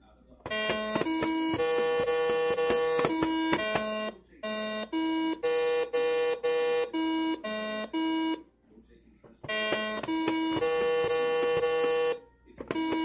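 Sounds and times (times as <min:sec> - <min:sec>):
electronic game tones: 0:00.4 - 0:08.4, 0:09.4 - 0:13.0.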